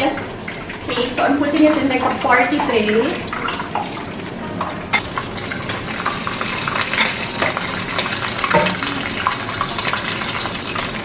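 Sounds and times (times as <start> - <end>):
food frying sizzle: 0.0 - 11.0.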